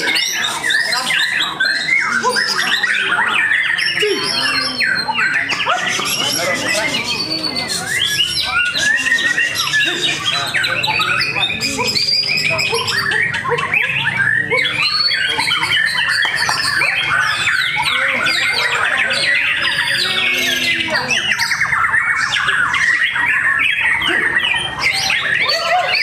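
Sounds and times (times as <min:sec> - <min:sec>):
many songbirds singing: 0:00.0 - 0:26.0
songbird singing: 0:00.0 - 0:26.0.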